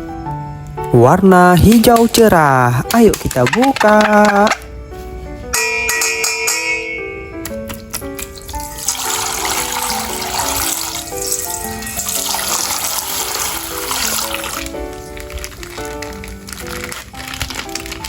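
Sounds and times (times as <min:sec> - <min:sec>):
plucked notes music: 0:00.0 - 0:18.0.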